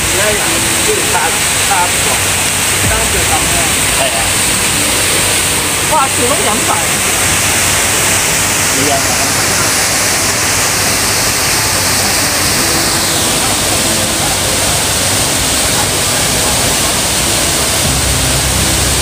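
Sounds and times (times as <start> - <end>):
waterfall splashing: 0.0 - 19.0.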